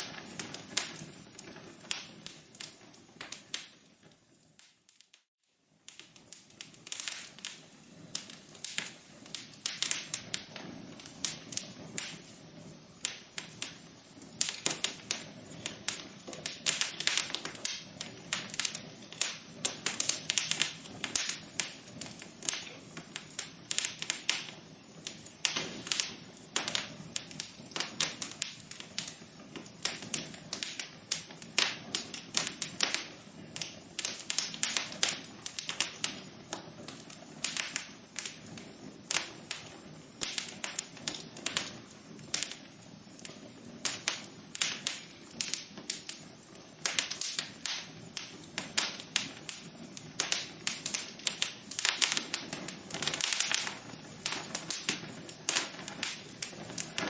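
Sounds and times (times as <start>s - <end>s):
hiss of flame: 0.0s - 57.0s
wood fire crackling: 0.0s - 57.0s.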